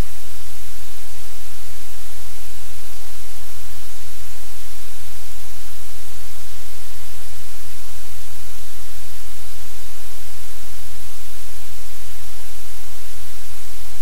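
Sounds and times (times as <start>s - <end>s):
static hiss: 0.0s - 14.0s.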